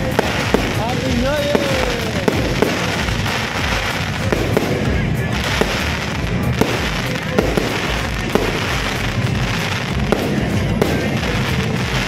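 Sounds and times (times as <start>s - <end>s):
fireworks launching and bursting: 0.0s - 12.0s
sharp firework bangs: 0.0s - 12.0s.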